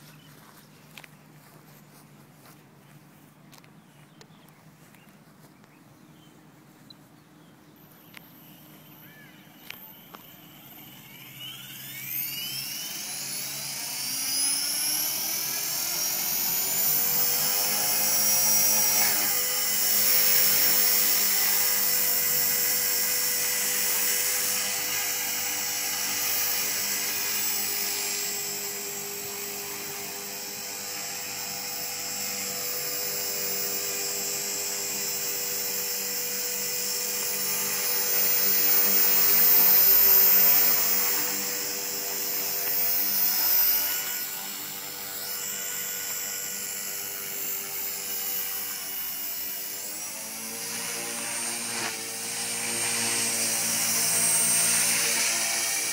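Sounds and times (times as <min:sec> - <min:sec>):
model helicopter rotor whine: 0:06.0 - 0:55.9.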